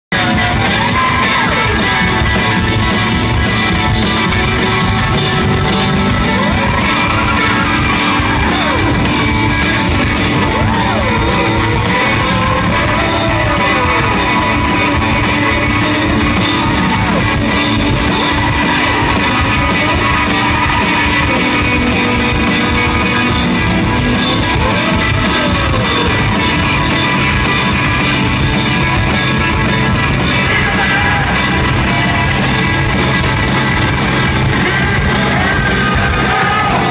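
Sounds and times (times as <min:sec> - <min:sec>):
drum kit: 0:00.1 - 0:36.9
electric guitars: 0:00.1 - 0:36.9.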